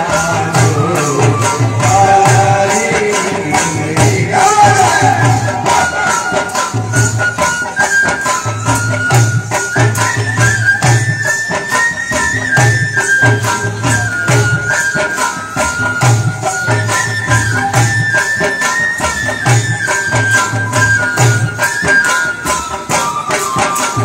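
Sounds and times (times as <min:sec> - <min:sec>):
high flute melody: 0:00.0 - 0:03.2, 0:04.2 - 0:24.0
frame drums beating with jingling: 0:00.0 - 0:24.0.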